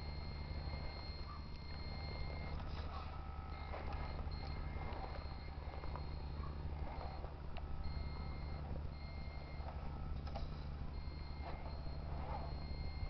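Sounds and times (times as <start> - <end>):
electronic reversing beep: 0.0 - 13.0
model truck engine hum: 0.0 - 13.0.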